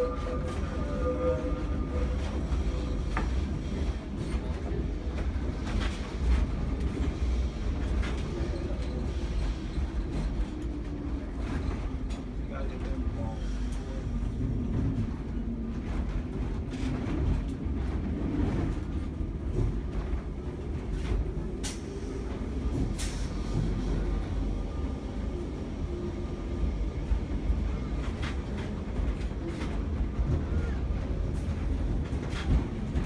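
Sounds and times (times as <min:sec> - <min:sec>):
tram rumbling on rails: 0:00.0 - 0:33.0.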